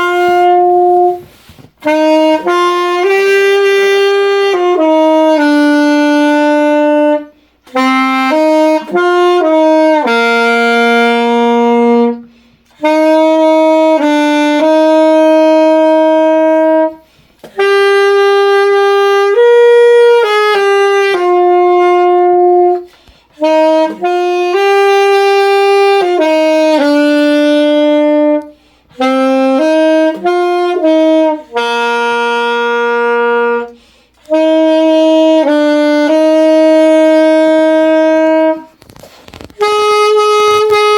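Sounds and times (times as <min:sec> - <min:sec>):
wind instrument melody: 0:00.0 - 0:40.9.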